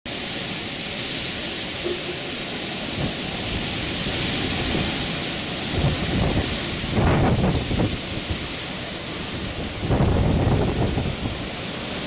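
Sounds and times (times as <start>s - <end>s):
heavy rain hissing: 0.1s - 12.0s
wind buffets: 1.8s - 12.0s.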